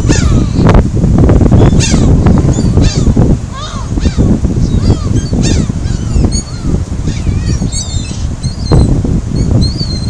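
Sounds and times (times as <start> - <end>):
seagulls calling: 0.0 - 0.8, 1.6 - 10.0
wind rumble on microphone: 0.0 - 10.0.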